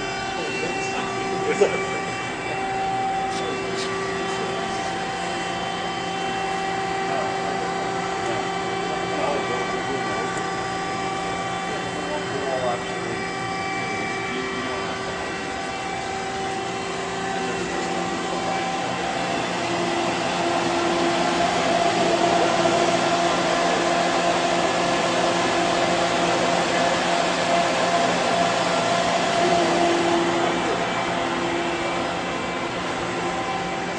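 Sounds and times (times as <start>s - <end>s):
machining center whirring hum: 0.0s - 33.9s.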